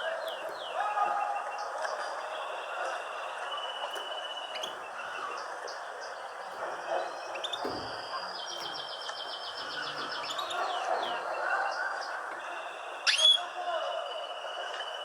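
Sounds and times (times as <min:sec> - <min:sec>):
bird trill: 0:00.0 - 0:15.0
songbirds chirping and whistling: 0:00.0 - 0:15.0.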